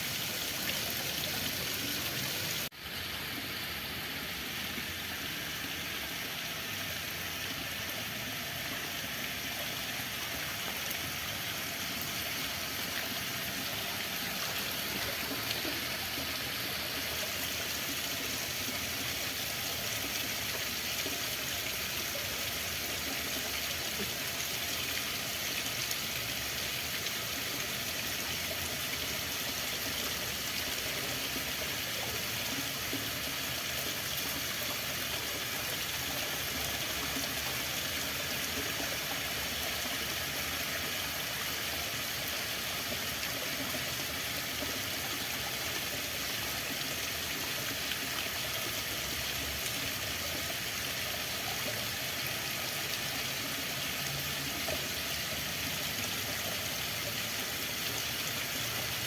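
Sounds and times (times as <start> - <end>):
water flowing: 0.0 - 59.0.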